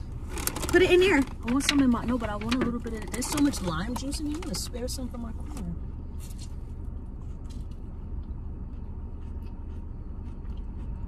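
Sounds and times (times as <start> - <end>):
car engine idling: 0.0 - 11.0
food being handled and chewed: 0.3 - 4.6, 6.2 - 11.0.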